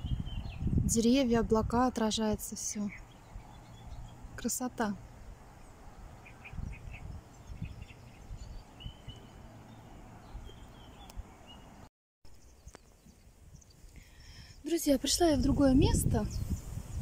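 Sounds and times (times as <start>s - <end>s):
wind buffeting microphone: 0.0s - 4.4s, 5.0s - 11.6s, 12.6s - 17.0s
small birds chirping: 0.0s - 17.0s.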